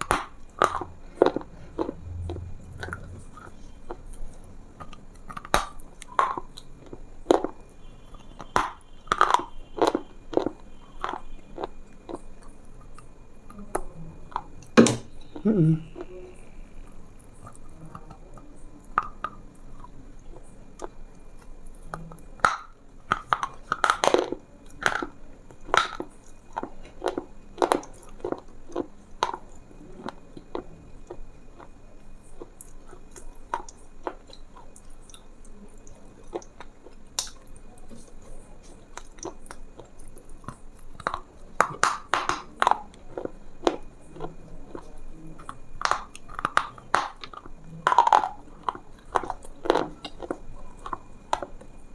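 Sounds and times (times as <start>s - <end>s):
person chewing crunchy food: 0.0s - 13.7s, 16.8s - 51.9s.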